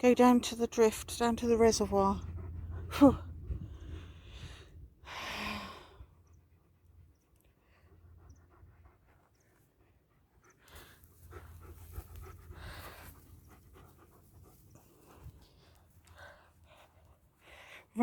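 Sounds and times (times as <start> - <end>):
dog panting: 0.6 - 4.0, 6.2 - 17.4.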